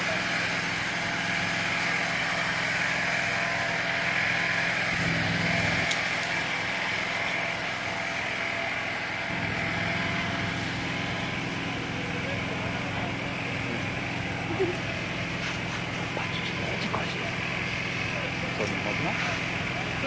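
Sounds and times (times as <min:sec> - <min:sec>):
fire engine running: 0:00.0 - 0:20.0
hose jet spraying water: 0:00.0 - 0:20.0.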